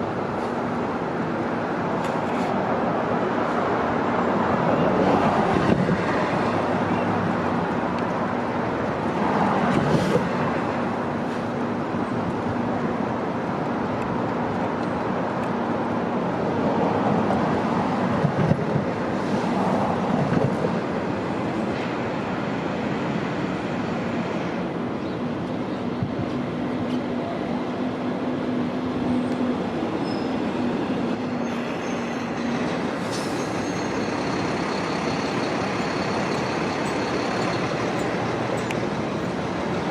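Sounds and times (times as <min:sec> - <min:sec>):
subway train rumble: 0:00.0 - 0:39.9.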